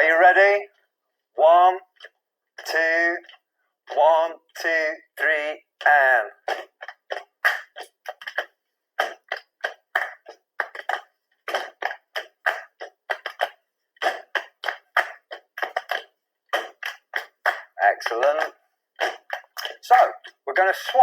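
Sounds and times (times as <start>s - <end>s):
body percussion claps and slaps: 1.6s - 21.0s.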